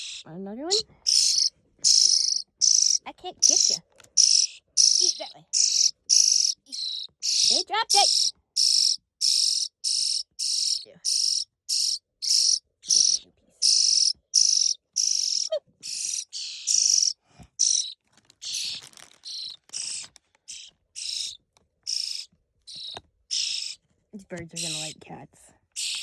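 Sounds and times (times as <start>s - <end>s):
baby birds begging calls: 0.0s - 25.0s, 25.7s - 26.0s.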